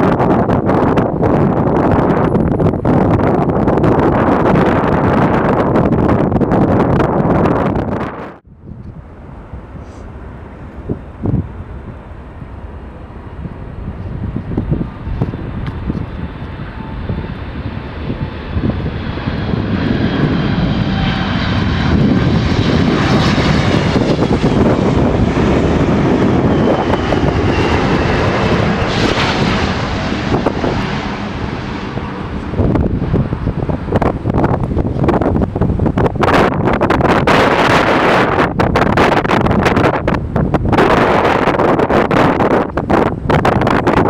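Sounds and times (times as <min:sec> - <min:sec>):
jet engine noise with fan whine: 0:00.0 - 0:44.0
wind on microphone: 0:00.0 - 0:44.0.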